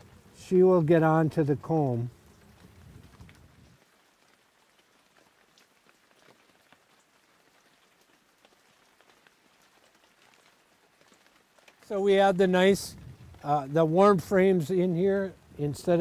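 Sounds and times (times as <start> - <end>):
light rain patter: 0.0 - 16.0.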